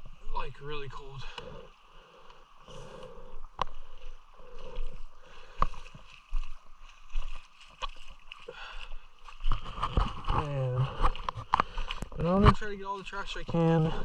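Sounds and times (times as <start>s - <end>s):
river water splashing: 0.0s - 14.0s.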